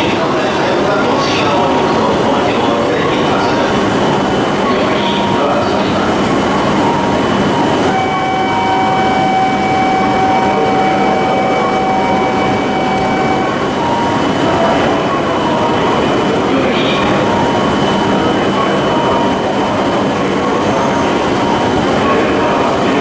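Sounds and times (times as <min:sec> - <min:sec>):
train rushing roar: 0:00.0 - 0:23.0.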